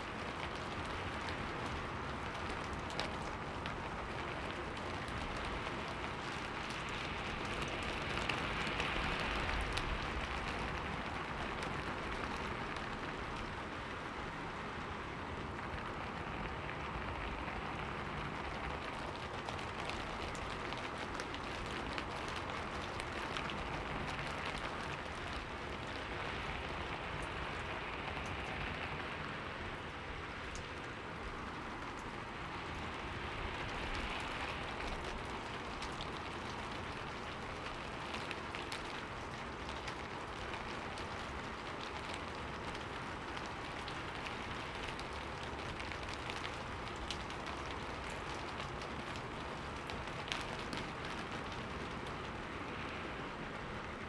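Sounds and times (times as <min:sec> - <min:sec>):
rain on window glass: 0:00.0 - 0:54.0.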